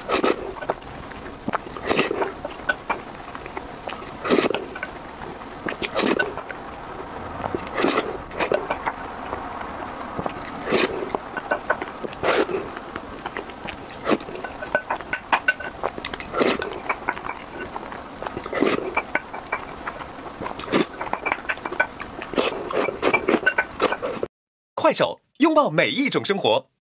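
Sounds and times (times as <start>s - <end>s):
wet chewing and slurping: 0.0s - 24.3s.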